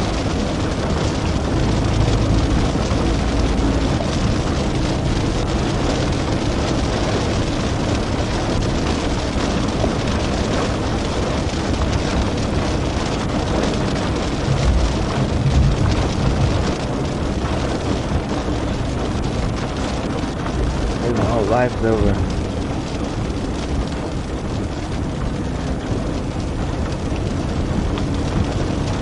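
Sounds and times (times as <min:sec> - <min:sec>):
car road and engine noise: 0:00.0 - 0:29.0
uneven low rumble: 0:00.0 - 0:29.0.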